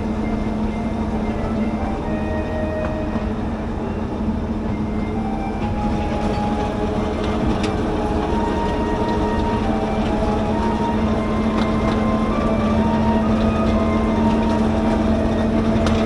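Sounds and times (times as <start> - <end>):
small train engine and wheels drone: 0.0 - 16.0.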